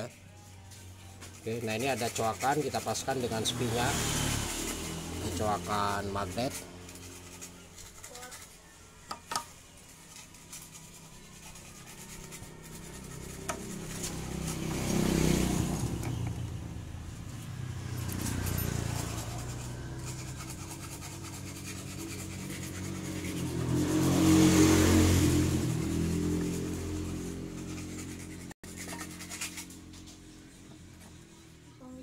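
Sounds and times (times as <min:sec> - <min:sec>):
passing motor vehicles: 0:00.0 - 0:07.9, 0:09.5 - 0:32.0.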